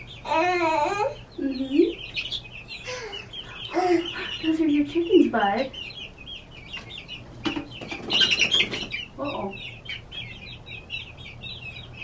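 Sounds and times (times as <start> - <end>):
baby chicks peeping: 0.0 - 12.0
chicks moving in wood shavings: 0.0 - 12.0.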